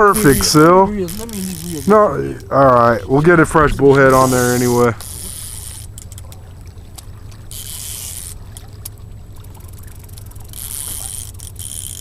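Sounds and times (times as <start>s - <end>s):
fishing reel ticking: 0.0s - 3.2s, 4.1s - 12.0s
rumble of wind and water: 0.0s - 12.0s.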